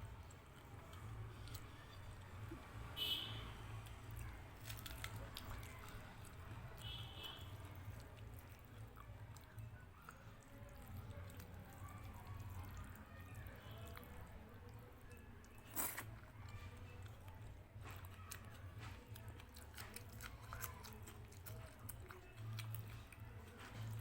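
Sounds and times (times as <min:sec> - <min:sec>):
person chewing crunchy food: 0:00.1 - 0:02.7, 0:03.8 - 0:14.3, 0:15.1 - 0:24.0.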